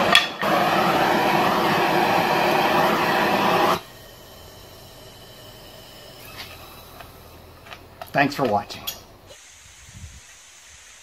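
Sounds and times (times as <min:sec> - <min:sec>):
propane torch hissing: 0:00.0 - 0:08.2, 0:08.8 - 0:11.0.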